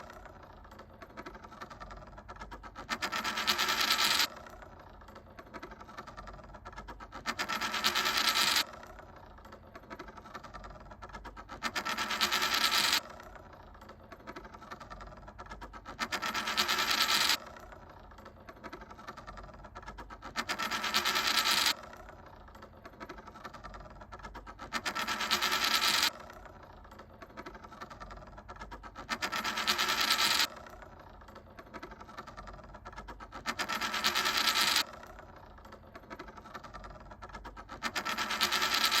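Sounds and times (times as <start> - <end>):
coin spinning on hard surface: 0.0 - 39.0
quiet fine rattle: 0.0 - 39.0.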